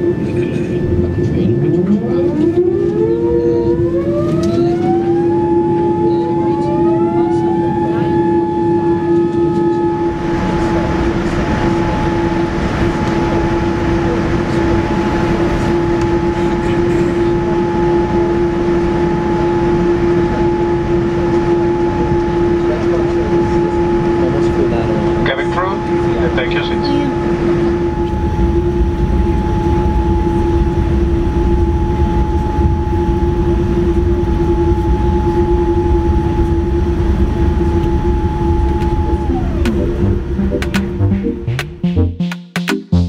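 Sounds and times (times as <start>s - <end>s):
jet engine whining: 0.0s - 41.9s.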